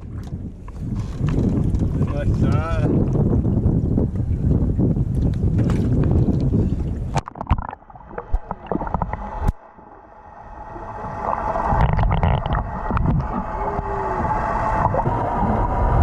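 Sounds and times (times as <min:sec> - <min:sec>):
wind and water rushing: 0:00.0 - 0:16.0.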